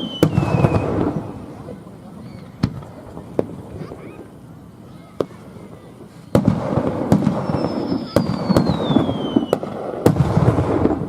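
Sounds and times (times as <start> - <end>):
falling firework whistle: 0.0 - 1.6, 2.2 - 4.4, 5.1 - 11.0
fireworks crackling and booming: 0.0 - 11.0
fireworks sharp bangs: 0.0 - 11.0.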